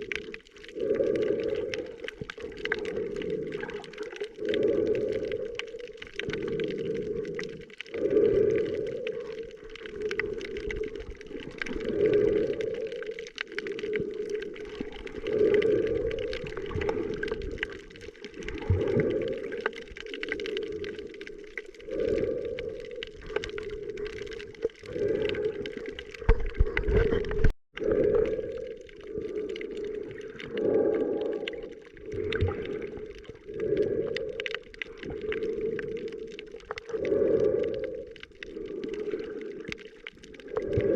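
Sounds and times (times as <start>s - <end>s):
muffled underwater water sounds: 0.0s - 40.9s.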